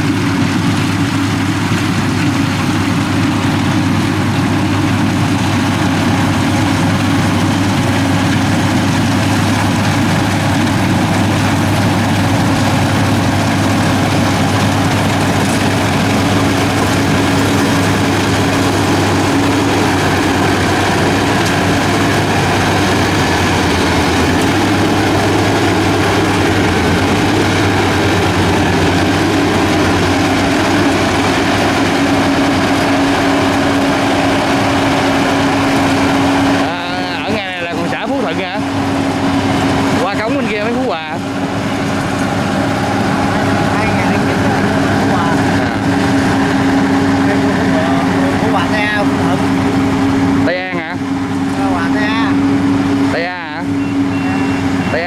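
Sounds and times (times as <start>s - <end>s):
combine harvester engine drone: 0.0s - 55.0s
cutting and threshing machinery: 0.0s - 55.0s.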